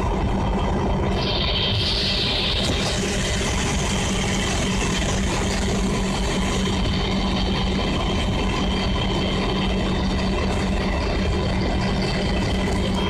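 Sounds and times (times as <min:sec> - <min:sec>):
diesel engine drone: 0:00.0 - 0:13.0
high whine: 0:00.0 - 0:13.0.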